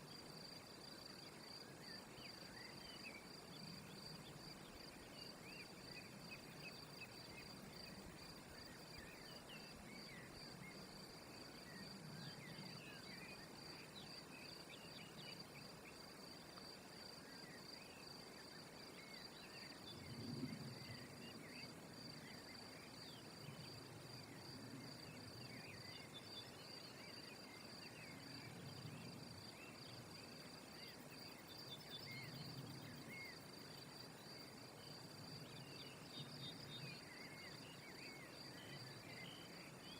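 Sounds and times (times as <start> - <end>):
insect trill: 0.2 - 39.9.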